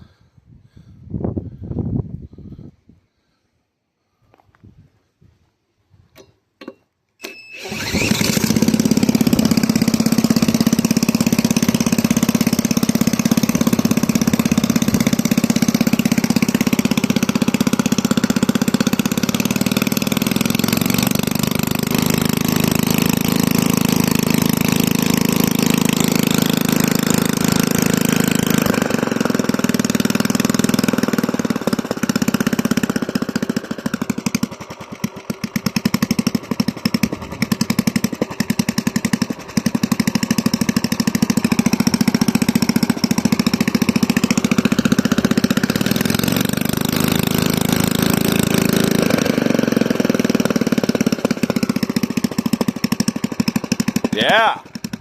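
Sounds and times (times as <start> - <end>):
starter cord pulls: 6.1 - 53.1
lawn mower engine running: 7.2 - 55.0.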